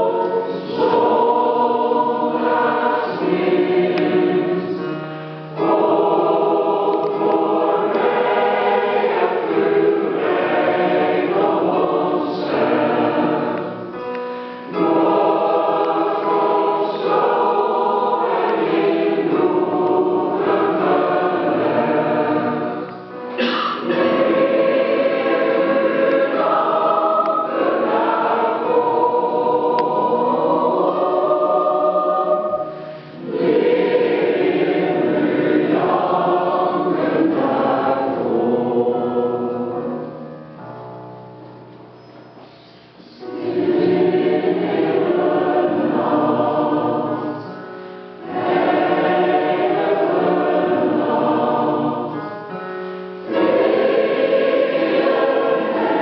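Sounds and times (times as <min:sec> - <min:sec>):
mixed choir singing: 0:00.0 - 0:40.6, 0:43.0 - 0:56.0.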